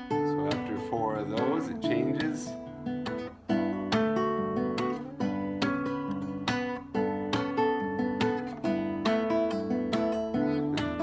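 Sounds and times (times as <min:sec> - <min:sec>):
fingerstyle acoustic guitar: 0:00.0 - 0:11.0
percussive guitar string smacks: 0:00.0 - 0:11.0.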